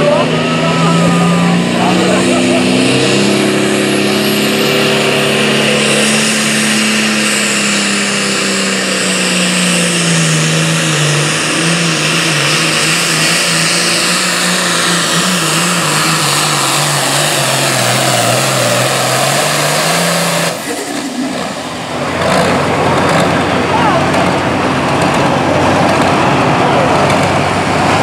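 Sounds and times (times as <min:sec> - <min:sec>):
tractor diesel engine at full throttle: 0:00.0 - 0:28.0.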